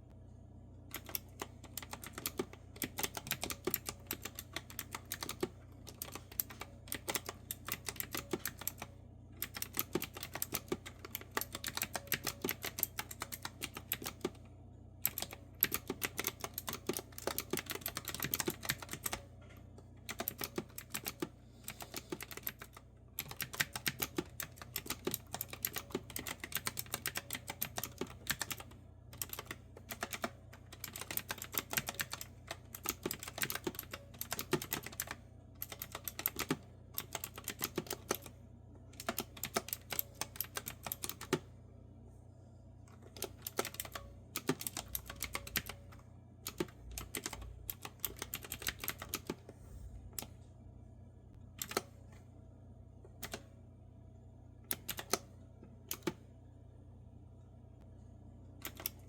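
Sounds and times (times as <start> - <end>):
clicky keyboard typing: 0.9 - 14.4, 15.0 - 19.3, 20.0 - 41.5, 42.9 - 49.5, 51.6 - 51.9, 53.2 - 53.5, 54.7 - 56.2, 58.6 - 59.0.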